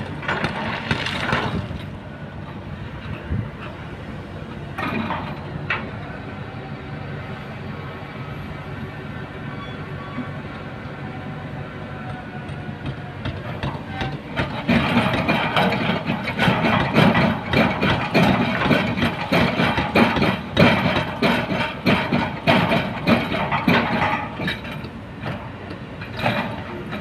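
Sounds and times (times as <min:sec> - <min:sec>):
excavator diesel engine under load: 0:00.0 - 0:27.0.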